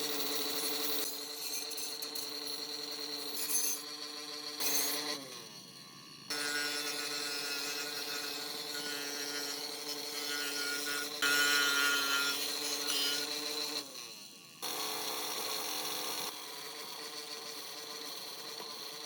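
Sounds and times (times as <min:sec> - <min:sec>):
motor-driven tool whining: 0:00.0 - 0:19.0.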